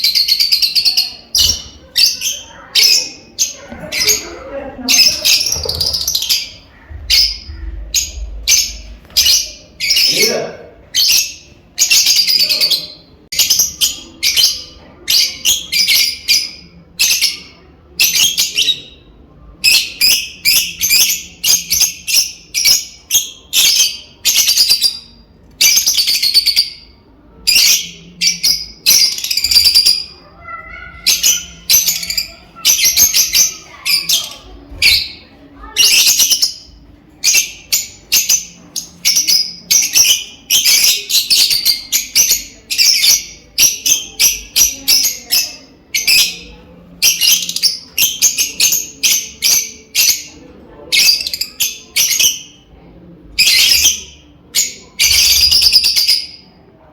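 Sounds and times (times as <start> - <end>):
birds chirping: 0.0 - 56.8.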